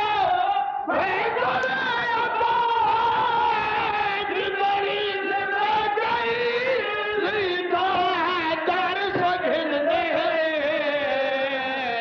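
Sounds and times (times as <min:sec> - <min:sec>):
man chanting poetry: 0:00.0 - 0:12.0.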